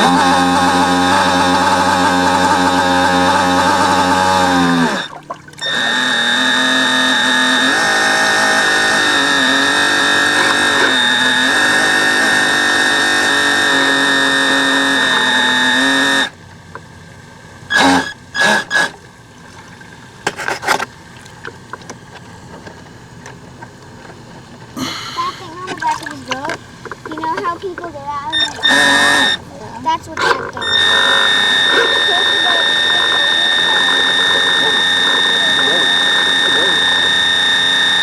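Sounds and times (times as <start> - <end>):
model boat motor whining: 0.0 - 38.0.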